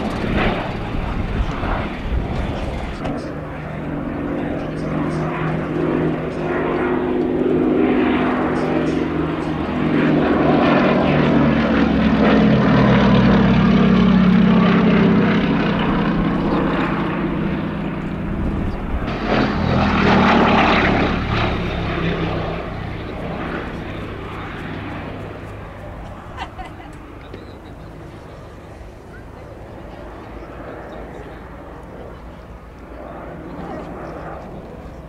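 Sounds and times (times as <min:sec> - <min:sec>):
propeller aircraft flying past: 0:00.0 - 0:35.0.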